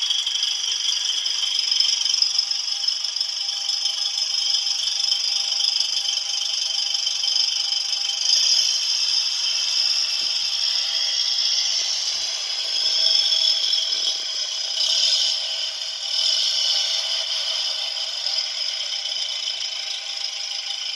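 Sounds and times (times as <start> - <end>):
motor whirring rattle: 0.0 - 20.9.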